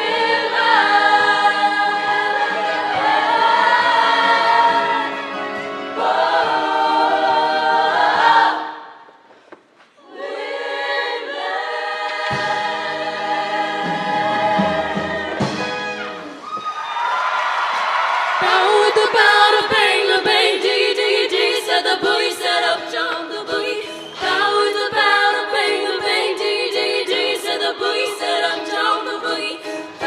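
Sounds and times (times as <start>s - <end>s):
choir singing held chords: 0.0s - 9.3s, 10.0s - 16.4s, 18.4s - 30.0s.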